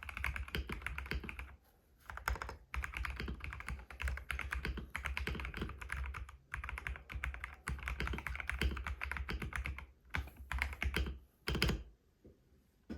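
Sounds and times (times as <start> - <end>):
mechanical keyboard typing: 0.0 - 11.9.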